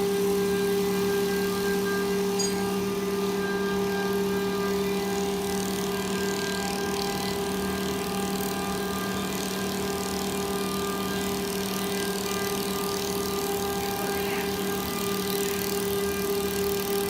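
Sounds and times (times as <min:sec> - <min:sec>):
wood lathe motor hum: 0:00.0 - 0:17.0.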